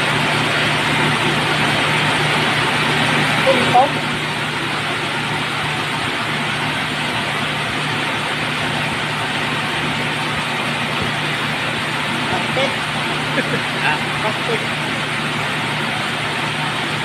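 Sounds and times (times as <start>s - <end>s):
rice milling machine droning: 0.0s - 17.0s.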